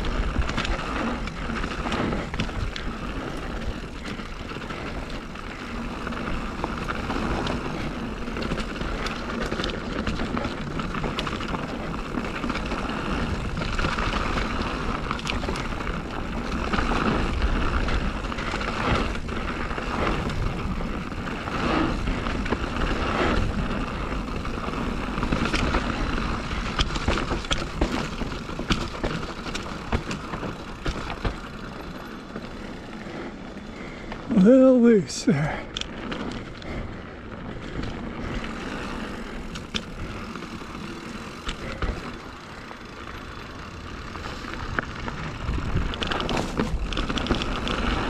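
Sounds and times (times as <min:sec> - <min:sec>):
bike rattling over bumps: 0:00.0 - 0:48.0
bike tyres rolling on dirt: 0:00.0 - 0:48.0.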